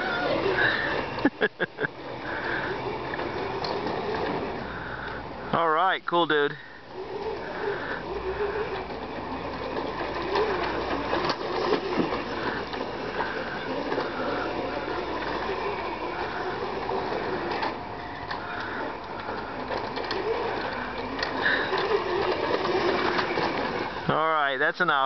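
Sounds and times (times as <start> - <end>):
electric atv motor whining: 0.0 - 25.0.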